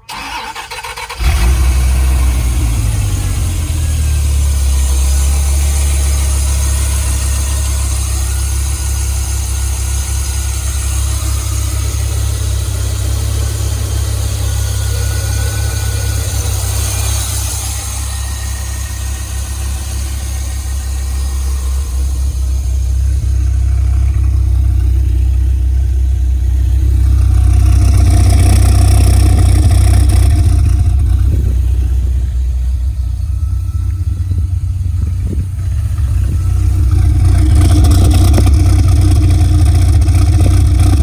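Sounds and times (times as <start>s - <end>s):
car engine starting and idling: 0.0s - 41.0s.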